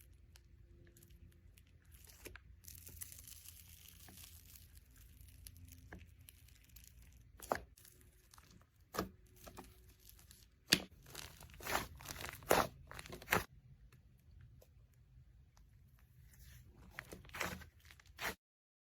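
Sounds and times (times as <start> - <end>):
slime squelching: 0.0 - 18.4.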